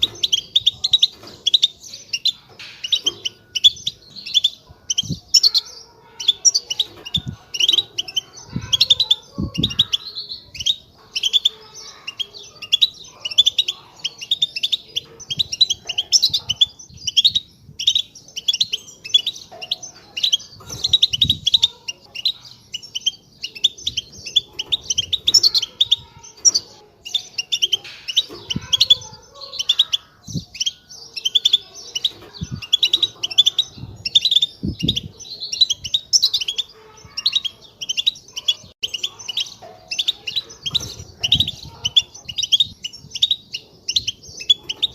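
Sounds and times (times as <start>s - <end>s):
goldfinch chirping: 0.0s - 44.9s.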